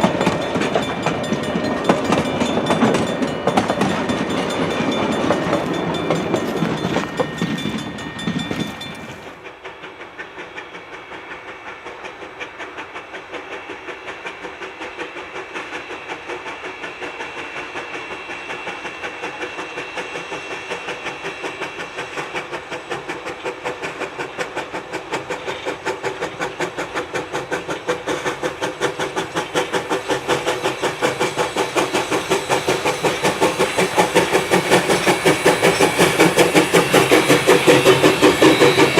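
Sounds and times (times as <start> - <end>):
steam locomotive chuffing: 0.0 - 38.9
train noise: 0.0 - 38.9.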